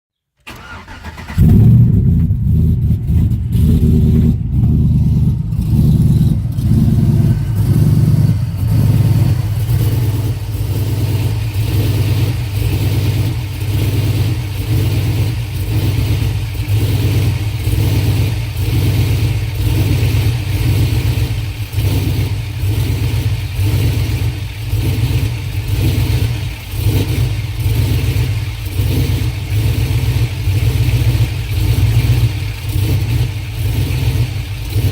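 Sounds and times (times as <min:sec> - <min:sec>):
engine idling roughly with misfires: 0:00.4 - 0:34.9.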